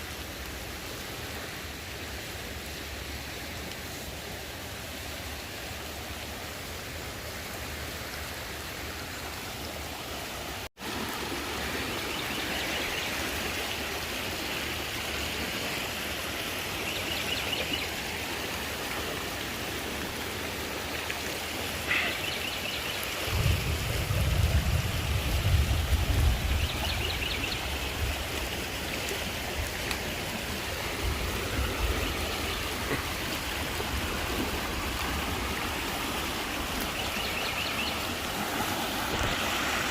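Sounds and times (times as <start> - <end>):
rushing creek water: 0.0 - 39.9.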